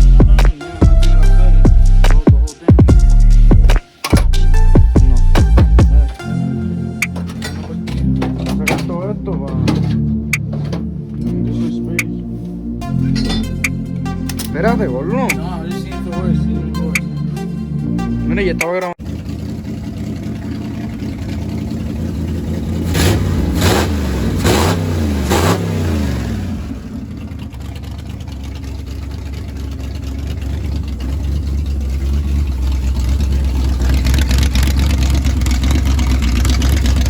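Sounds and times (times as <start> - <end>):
engine low rumble: 0.0 - 37.0
car engine revving: 2.9 - 37.0.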